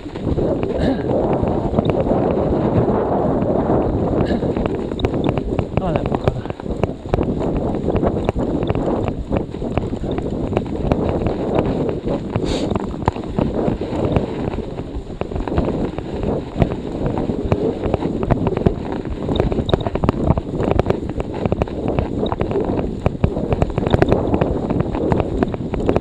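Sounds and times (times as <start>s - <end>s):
wind buffeting microphone: 0.0s - 26.0s
bike rattles and knocks: 4.2s - 26.0s.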